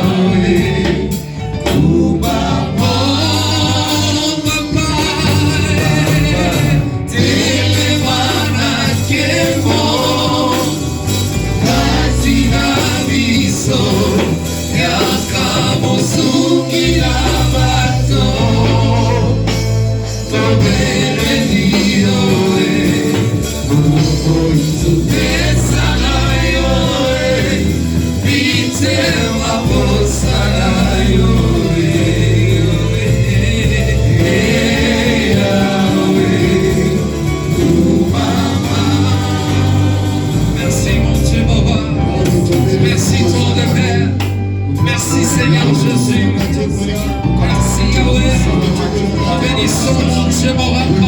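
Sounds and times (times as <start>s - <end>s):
band playing: 0.0s - 51.0s
choir singing gospel: 0.0s - 51.0s
deep bass notes: 0.0s - 51.0s.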